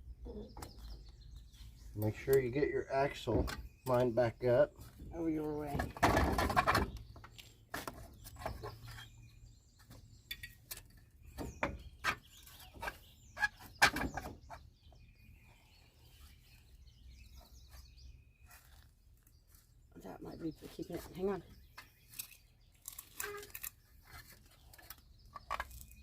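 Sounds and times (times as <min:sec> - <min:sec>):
birds chirping faintly: 0:00.0 - 0:26.0.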